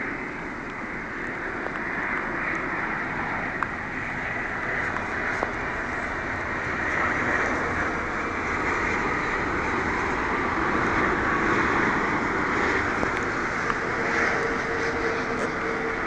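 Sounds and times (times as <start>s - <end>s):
airliner jet engines rushing: 0.0s - 16.0s.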